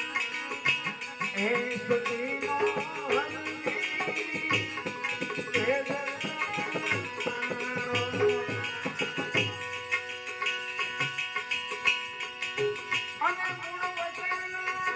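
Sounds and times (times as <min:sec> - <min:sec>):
tabla drumming: 0:00.0 - 0:14.9.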